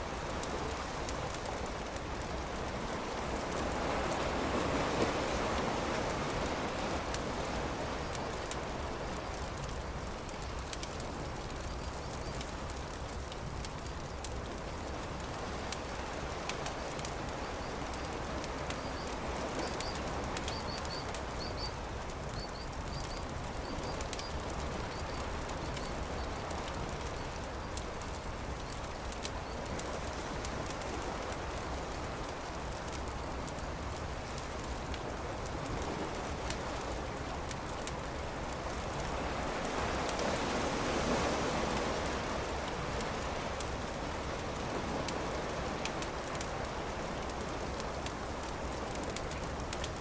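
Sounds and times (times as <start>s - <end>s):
surf washing: 0.0s - 12.0s, 12.6s - 50.0s
campfire crackling and popping: 0.1s - 50.0s.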